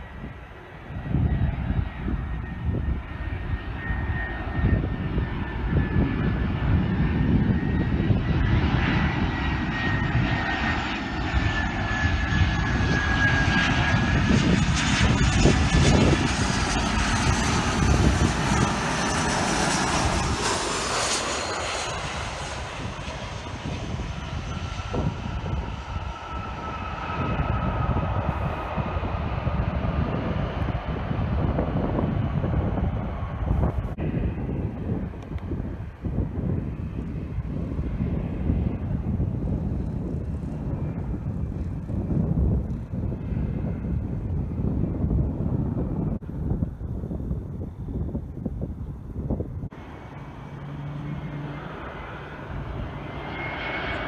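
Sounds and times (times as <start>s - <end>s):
jet airliner landing: 0.0s - 54.0s.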